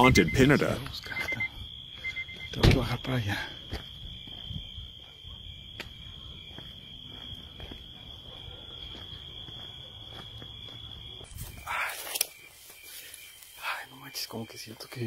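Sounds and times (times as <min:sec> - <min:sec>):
night insects trilling: 0:00.0 - 0:15.0
footsteps and phone clicks: 0:00.3 - 0:02.6, 0:03.7 - 0:13.6.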